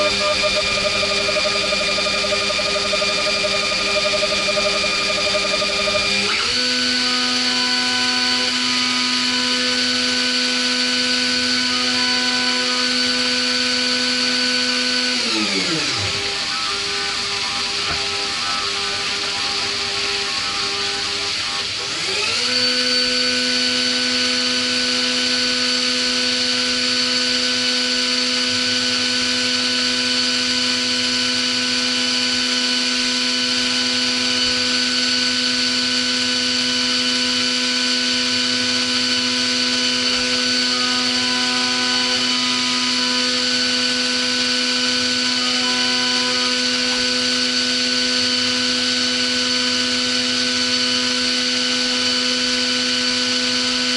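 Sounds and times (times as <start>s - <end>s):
milling machine spindle whine: 0.0s - 53.9s.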